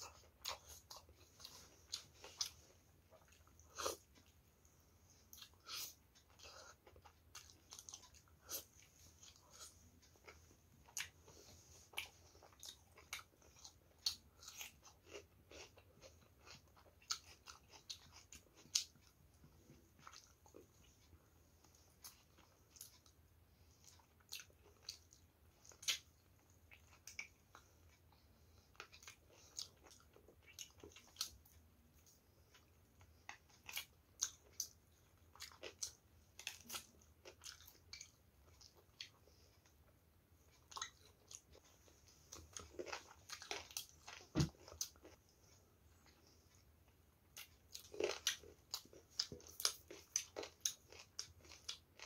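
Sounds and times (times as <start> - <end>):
person chewing meat: 0.0 - 4.5, 5.1 - 52.0.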